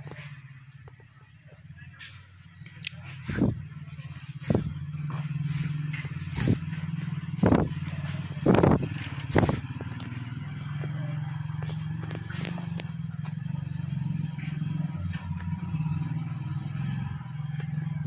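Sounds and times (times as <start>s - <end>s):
steady low hum: 1.8s - 16.6s.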